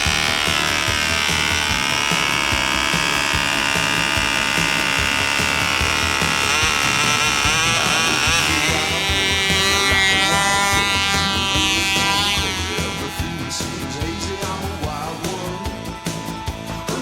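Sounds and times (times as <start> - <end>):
background music with steady beat: 0.0 - 17.0
model engine buzzy whine: 0.0 - 17.0.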